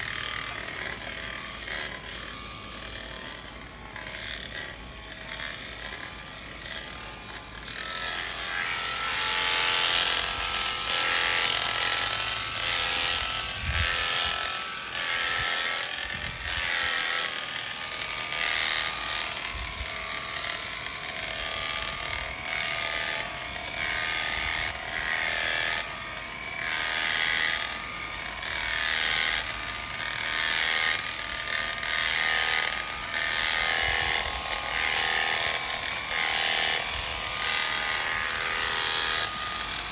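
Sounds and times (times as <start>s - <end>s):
electric shears whining: 0.0s - 39.9s
shears cutting through wool: 0.0s - 39.9s.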